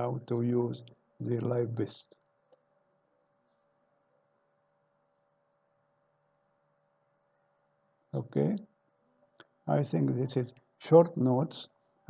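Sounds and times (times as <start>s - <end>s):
faint steady background hum: 0.0s - 12.0s.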